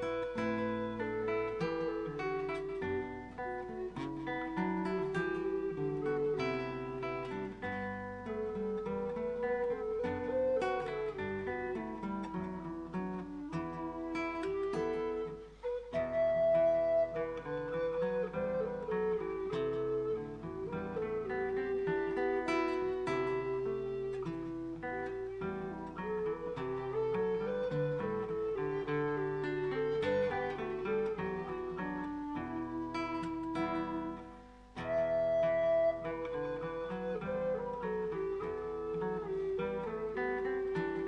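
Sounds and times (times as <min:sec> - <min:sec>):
acoustic guitar music: 0:00.0 - 0:41.0.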